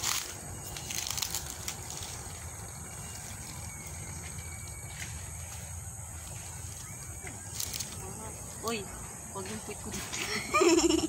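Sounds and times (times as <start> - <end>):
insects chirring: 0.0 - 11.0
steady low rumble: 0.0 - 11.0.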